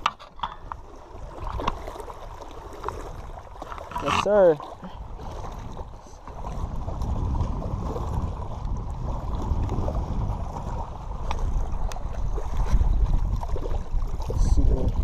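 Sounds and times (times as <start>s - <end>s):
waves lapping on rocky shore: 0.0s - 15.0s
wind buffeting microphone: 0.0s - 15.0s.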